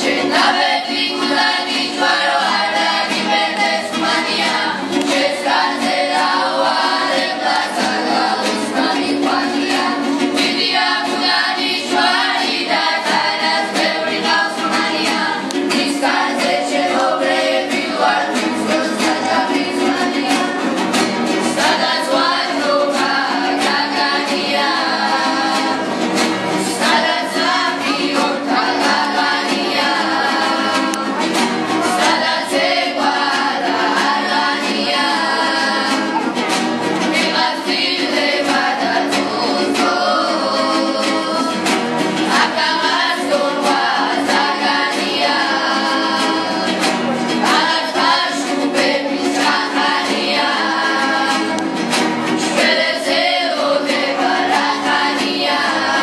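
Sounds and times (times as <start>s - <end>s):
acoustic guitars strumming: 0.0s - 56.0s
young voices singing together: 0.0s - 56.0s.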